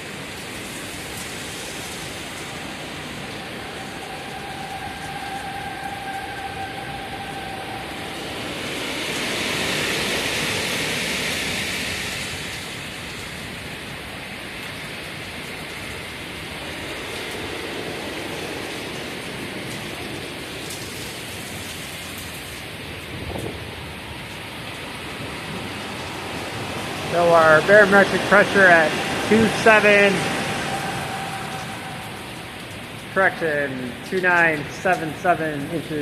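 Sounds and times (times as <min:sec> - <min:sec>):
heavy rain: 0:00.0 - 0:36.0
wind: 0:00.0 - 0:36.0
warning siren tone: 0:00.7 - 0:13.0, 0:16.5 - 0:35.5.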